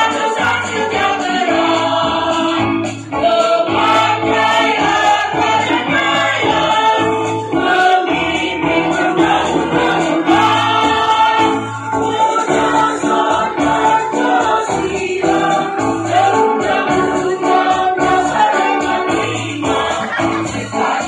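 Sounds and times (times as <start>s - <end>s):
mixed choir singing in harmony: 0.0s - 21.0s.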